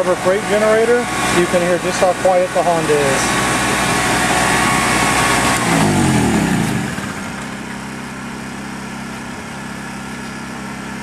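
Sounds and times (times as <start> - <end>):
generator engine winding down: 0.0 - 11.0
inverter generator humming: 0.0 - 11.0.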